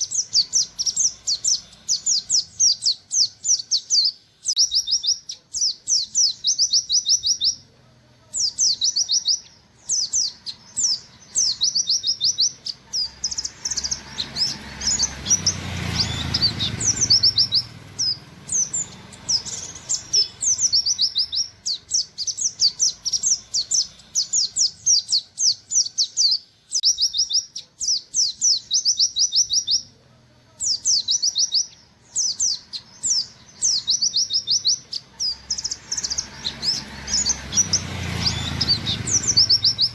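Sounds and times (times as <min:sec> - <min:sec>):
bird singing rapid high notes: 0:00.0 - 0:07.7, 0:08.3 - 0:29.9, 0:30.6 - 0:39.9.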